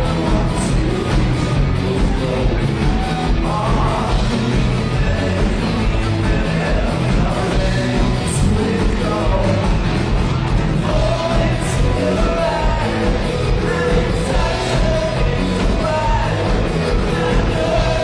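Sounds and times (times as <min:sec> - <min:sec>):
person singing: 0:00.0 - 0:10.0, 0:10.8 - 0:18.0
bass: 0:00.0 - 0:18.0
drums: 0:00.0 - 0:18.0
electric guitars: 0:00.0 - 0:18.0.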